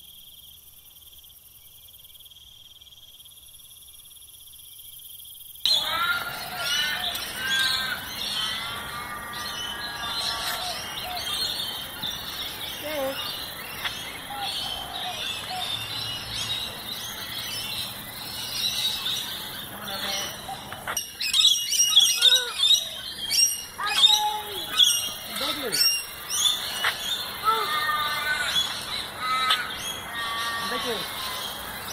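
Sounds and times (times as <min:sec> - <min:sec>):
birds chirping: 0:05.7 - 0:31.9.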